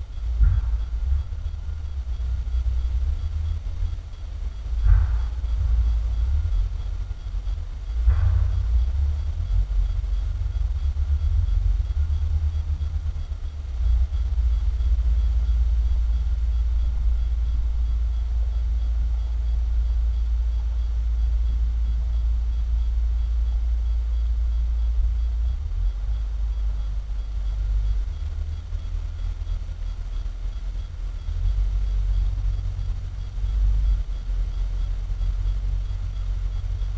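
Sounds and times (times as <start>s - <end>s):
heavy machine rumbling: 0.0s - 36.9s.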